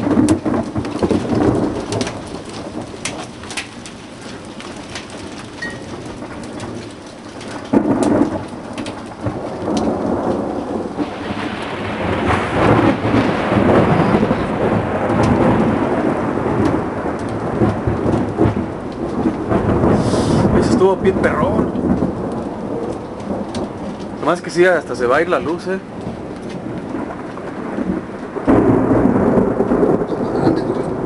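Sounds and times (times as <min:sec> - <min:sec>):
hail striking: 0:00.0 - 0:31.0
heavy rain: 0:00.0 - 0:31.0
rumble of thunder: 0:00.0 - 0:31.0
thunder clap: 0:00.0 - 0:31.0.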